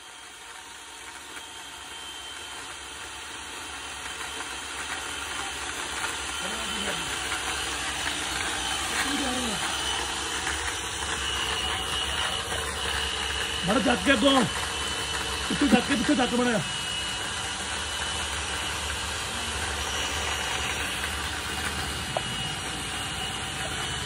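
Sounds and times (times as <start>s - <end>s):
electric chainsaw cutting wood: 0.0s - 24.0s.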